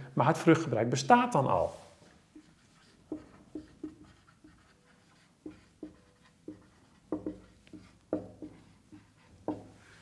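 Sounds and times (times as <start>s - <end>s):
marker writing on whiteboard: 1.6s - 10.0s.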